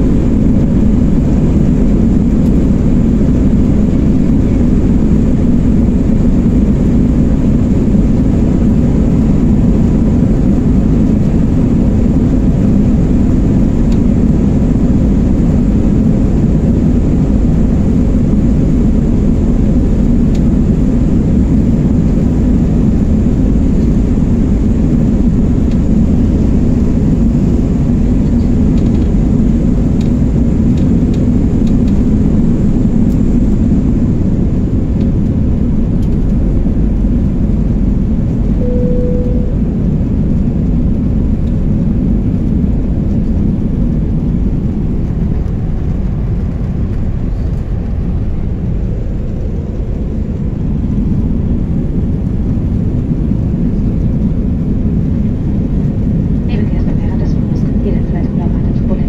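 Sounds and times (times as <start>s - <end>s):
jet engines at takeoff thrust: 0.0s - 59.0s
runway rumble: 0.0s - 59.0s.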